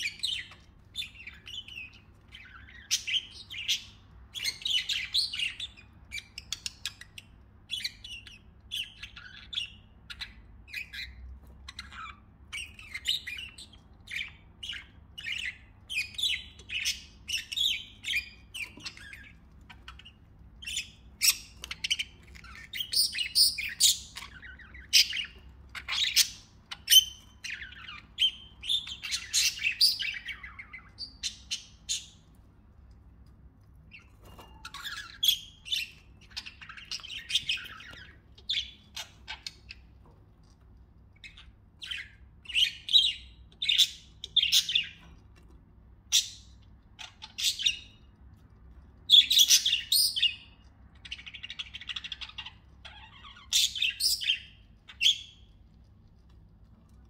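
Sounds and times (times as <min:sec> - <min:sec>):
budgerigars chirping and chattering: 0:00.0 - 0:56.9.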